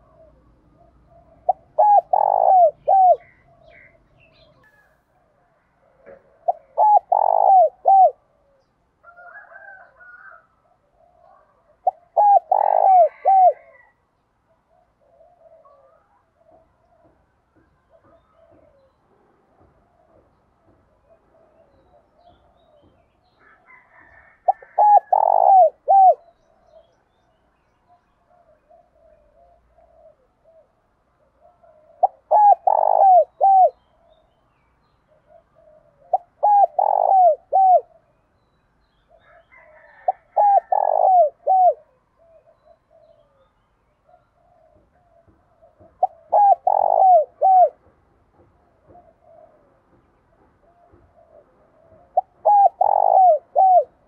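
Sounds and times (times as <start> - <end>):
dove cooing: 0.0 - 19.0, 19.6 - 27.0, 28.0 - 34.3, 35.1 - 38.2, 39.1 - 54.0.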